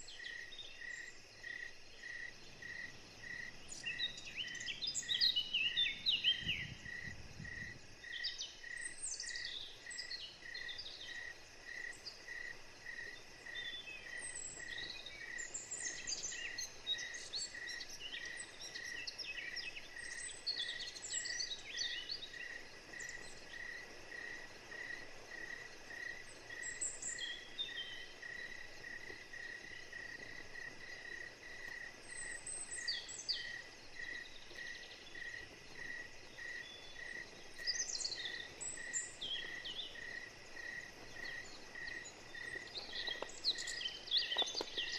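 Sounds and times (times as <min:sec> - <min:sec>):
birds calling and singing: 0:00.0 - 0:12.3, 0:13.0 - 0:24.4, 0:25.8 - 0:44.9
insect chirping: 0:00.0 - 0:44.9.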